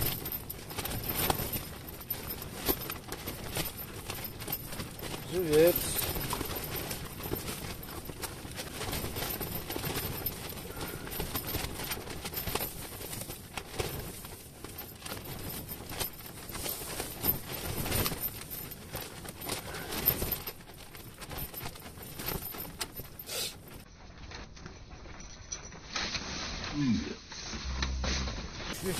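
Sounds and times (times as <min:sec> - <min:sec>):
tent fabric flapping and rattling: 0:00.0 - 0:28.9.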